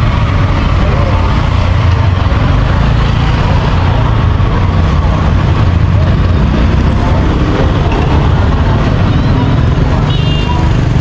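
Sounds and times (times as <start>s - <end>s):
voices chattering: 0.1s - 11.0s.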